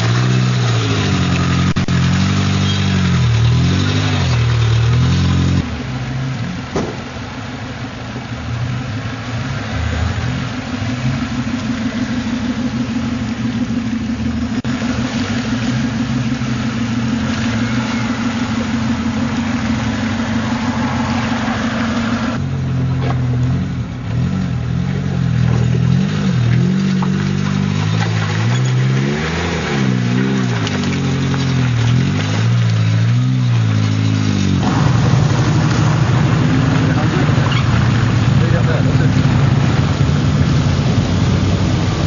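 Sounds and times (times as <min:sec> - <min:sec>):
engine revving: 0:00.0 - 0:07.0, 0:08.5 - 0:42.0
engine droning through water: 0:00.0 - 0:42.0.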